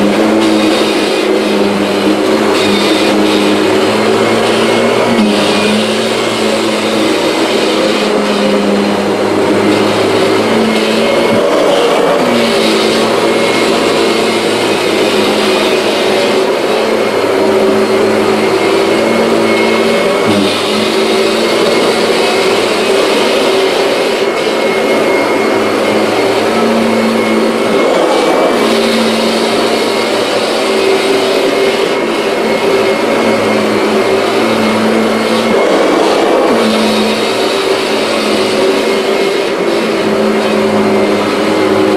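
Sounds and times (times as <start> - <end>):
upright vacuum cleaner running: 0.0 - 41.9.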